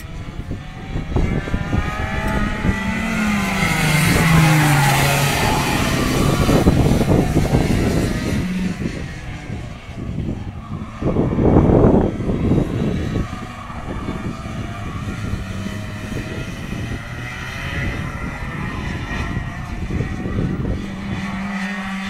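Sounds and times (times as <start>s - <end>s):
distant kart engines buzzing: 0.0s - 22.0s.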